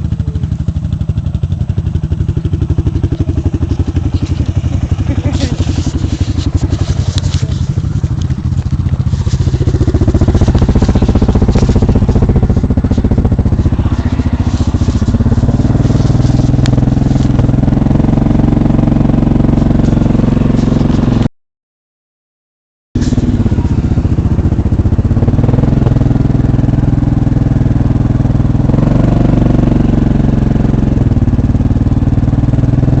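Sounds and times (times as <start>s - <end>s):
atv engine running: 0.0s - 21.3s, 23.0s - 33.0s.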